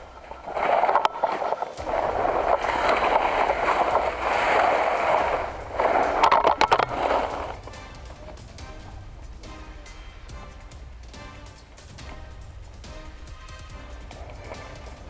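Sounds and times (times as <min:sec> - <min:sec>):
dry leaves and branches rustling: 0:00.0 - 0:15.0
sharp clicks: 0:00.2 - 0:15.0.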